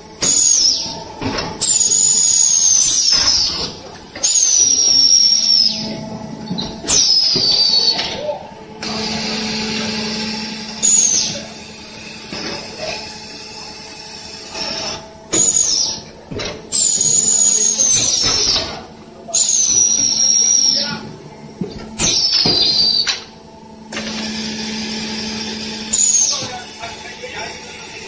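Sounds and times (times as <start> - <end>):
motor humming: 0.0 - 28.0
machine squealing: 0.2 - 21.0, 21.9 - 23.3, 23.9 - 28.0.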